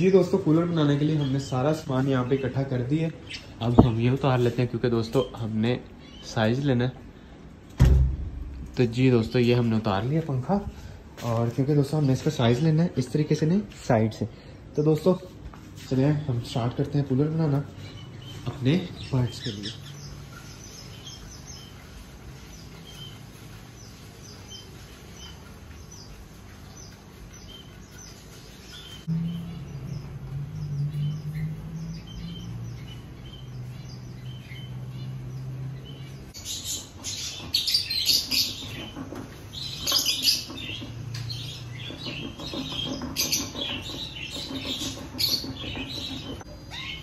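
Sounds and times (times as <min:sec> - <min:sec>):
pet birds chirping: 0:00.0 - 0:07.6, 0:08.7 - 0:47.0.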